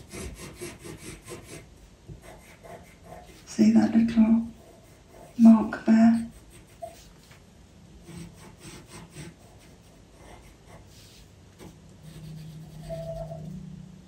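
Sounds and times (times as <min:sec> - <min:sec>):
pencil scratching on paper: 0:00.0 - 0:03.5, 0:04.5 - 0:07.4, 0:08.0 - 0:13.6
low steady hum: 0:00.0 - 0:14.0.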